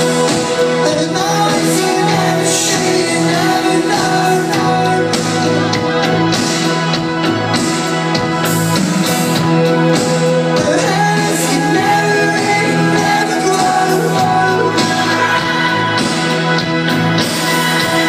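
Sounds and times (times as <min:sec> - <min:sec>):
person singing: 0:00.0 - 0:07.0, 0:08.8 - 0:18.0
live rock band playing: 0:00.0 - 0:18.0.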